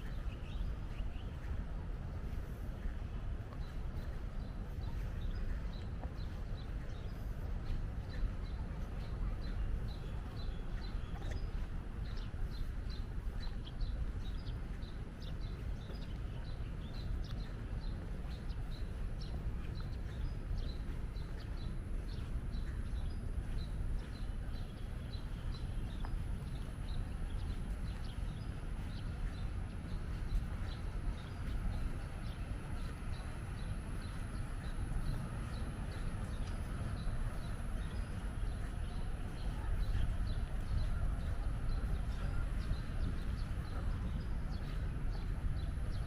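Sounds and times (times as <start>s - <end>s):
outdoor low rumble: 0.0s - 46.0s.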